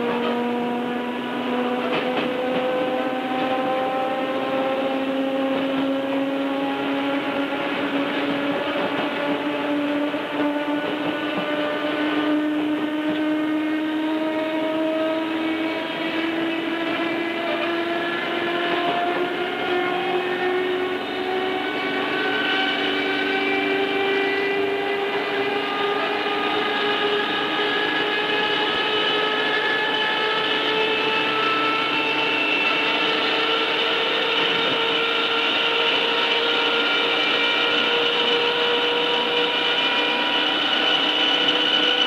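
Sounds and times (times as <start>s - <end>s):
electric train motors whining: 0.0s - 42.0s.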